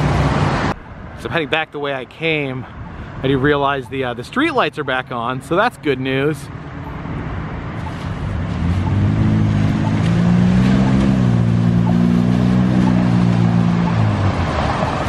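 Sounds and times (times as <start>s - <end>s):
car engine hum: 2.2s - 15.0s.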